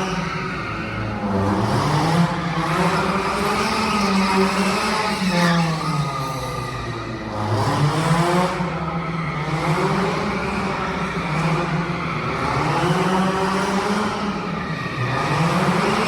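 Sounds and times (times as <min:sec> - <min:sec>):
car engine revving: 0:00.0 - 0:06.5, 0:07.2 - 0:16.0.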